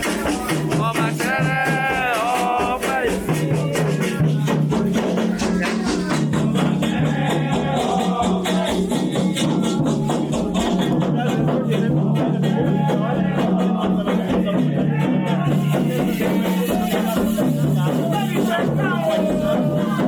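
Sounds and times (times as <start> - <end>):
person singing: 0.0 - 20.0
steady percussion with rattles: 0.0 - 20.0.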